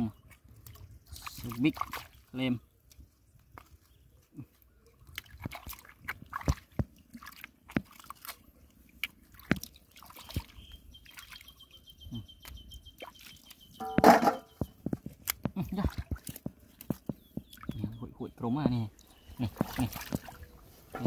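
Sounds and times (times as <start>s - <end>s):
small splashes and drips: 0.0s - 21.0s.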